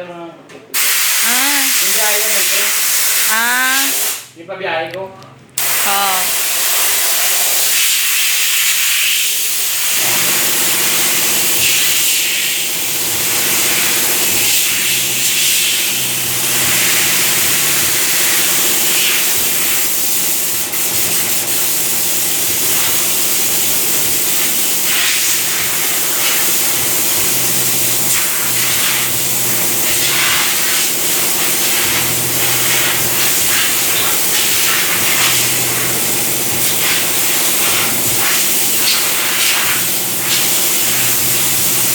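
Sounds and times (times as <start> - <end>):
high-pressure water spray hissing: 0.8 - 4.3, 5.6 - 41.9.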